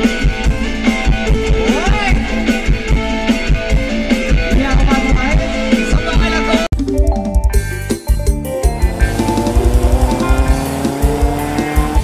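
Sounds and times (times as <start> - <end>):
heavy kick drum beat: 0.0 - 12.0
live band music through car speakers: 0.0 - 12.0.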